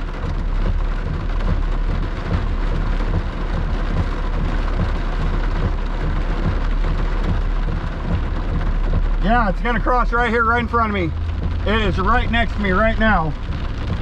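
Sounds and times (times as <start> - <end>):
rain on car windshield: 0.0 - 14.0
tyre and road noise: 0.0 - 14.0.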